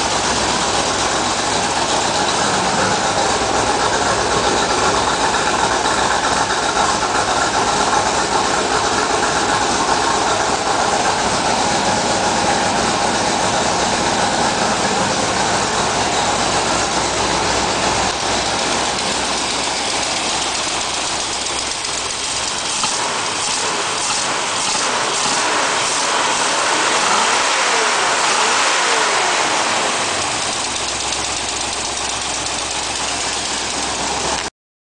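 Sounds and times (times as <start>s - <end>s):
car engine idling roughly: 0.0s - 34.5s.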